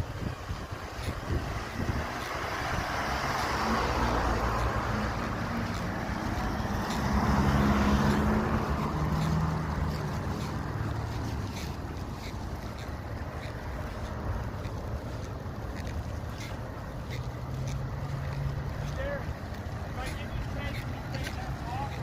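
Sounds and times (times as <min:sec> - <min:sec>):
tyre and road noise: 0:00.0 - 0:22.0
vehicle engines running: 0:00.0 - 0:22.0.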